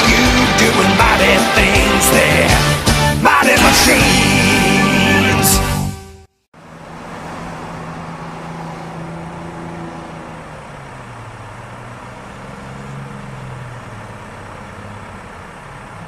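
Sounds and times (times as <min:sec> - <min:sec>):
bus engine running: 0:00.0 - 0:16.0
traffic noise: 0:00.0 - 0:16.0.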